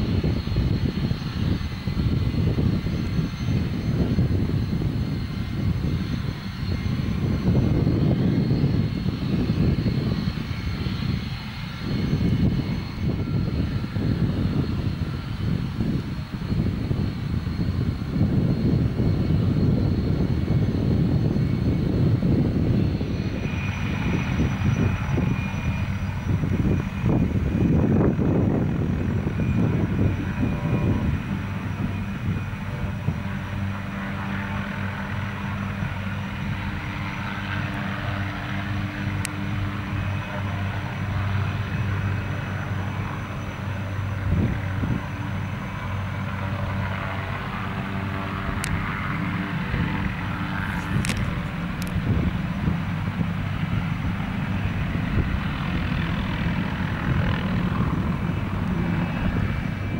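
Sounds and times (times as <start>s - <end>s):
heavy fluctuating rumble: 0.0s - 59.9s
helicopter rotor drone: 0.0s - 59.9s
high turbine whine: 0.0s - 59.9s.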